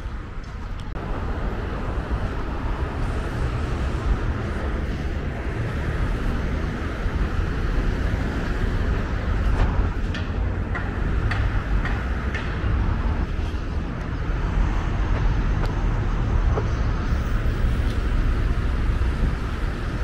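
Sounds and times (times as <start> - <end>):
highway traffic rushing: 0.0 - 20.0.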